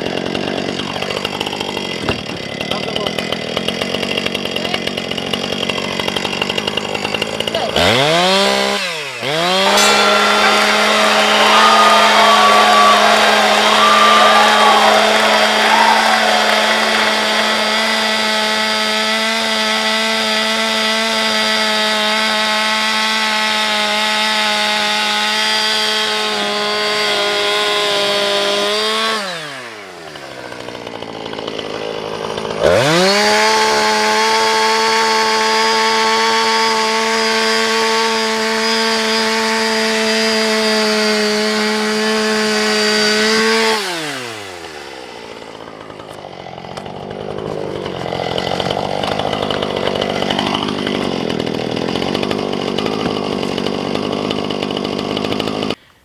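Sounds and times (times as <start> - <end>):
chainsaw cutting cardboard: 0.0 - 56.0.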